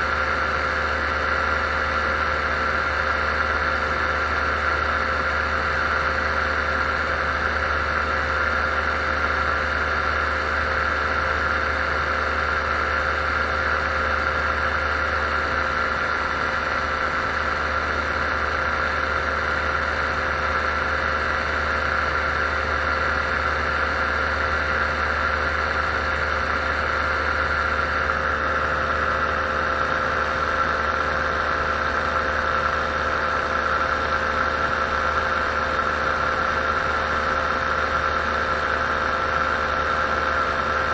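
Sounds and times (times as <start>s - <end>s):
paramotor engine droning: 0.0s - 40.9s.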